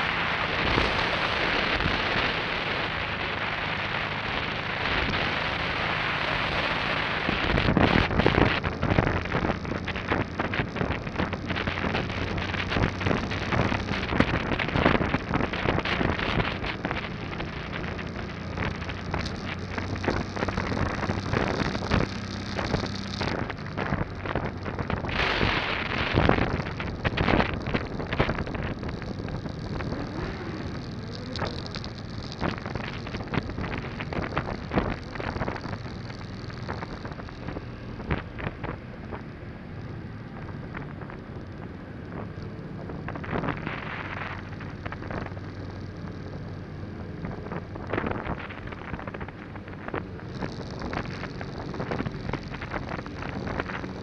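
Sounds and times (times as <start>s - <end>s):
motorcycle engine running: 0.0s - 54.0s
wind buffeting on microphone: 0.0s - 54.0s.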